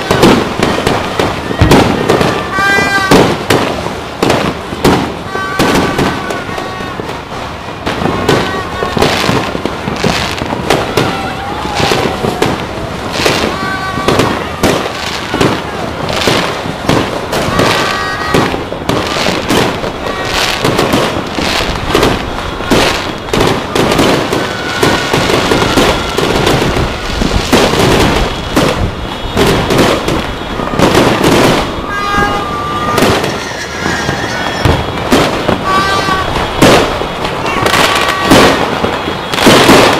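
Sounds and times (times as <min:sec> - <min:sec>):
fireworks and firecrackers bangs: 0:00.0 - 0:39.9.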